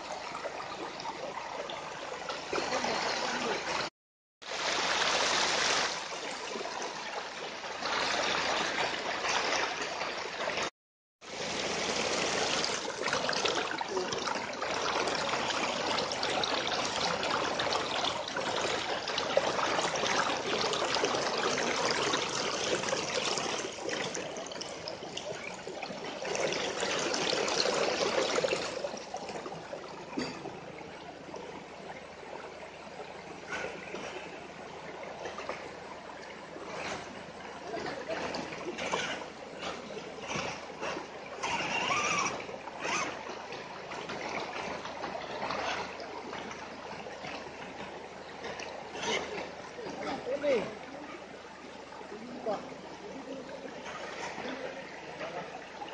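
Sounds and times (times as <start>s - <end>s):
river flowing over stones: 0.0s - 55.9s.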